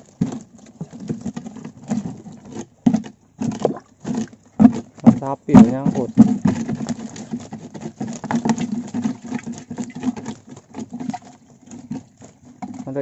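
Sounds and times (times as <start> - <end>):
fish flapping and slapping: 0.0 - 13.0.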